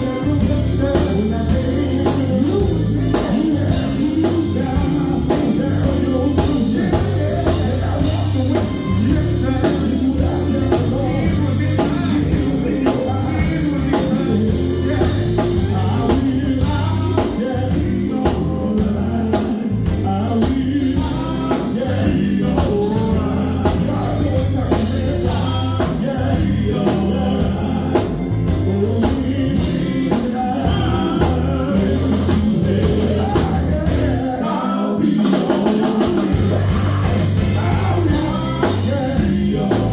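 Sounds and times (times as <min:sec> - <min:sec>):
drums: 0:00.0 - 0:39.9
electric guitar: 0:00.0 - 0:39.9
vocal group singing: 0:00.0 - 0:39.9.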